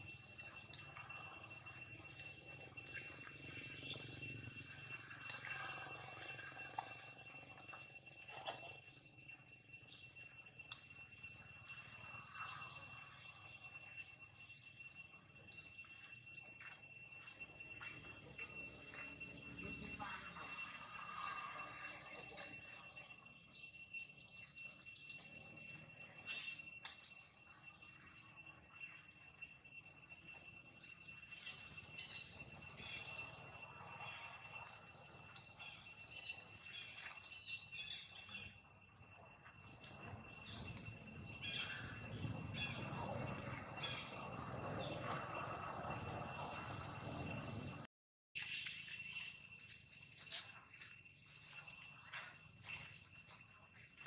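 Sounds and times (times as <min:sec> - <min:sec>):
birds chirping: 0:00.0 - 0:38.9, 0:39.6 - 0:54.0
high-pitched insect tones: 0:00.0 - 0:54.0.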